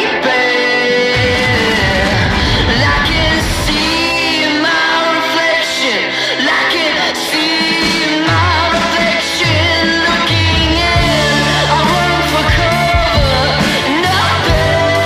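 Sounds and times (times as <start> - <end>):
person singing: 0.0 - 15.0
pop-rock song: 0.0 - 15.0.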